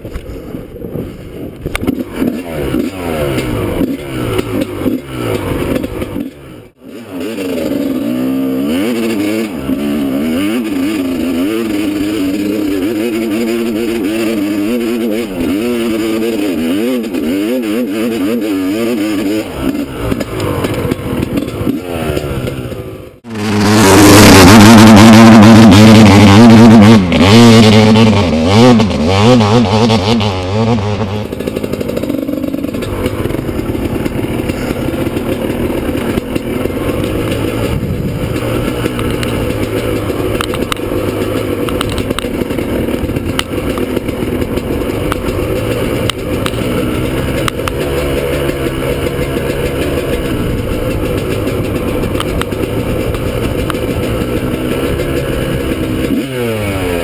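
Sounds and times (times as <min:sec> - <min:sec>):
dirt bike engine revving: 0:01.6 - 0:57.0.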